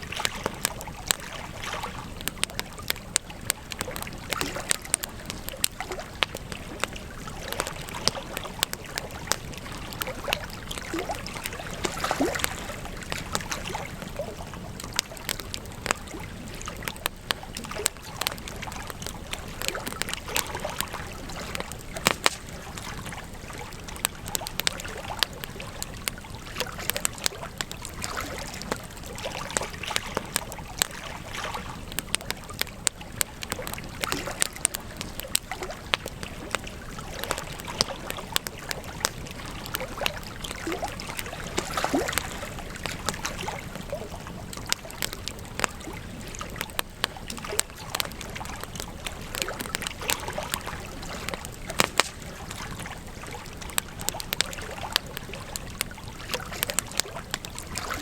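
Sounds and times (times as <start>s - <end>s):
low hiss of fire: 0.0s - 57.8s
campfire crackling and popping: 0.0s - 58.0s.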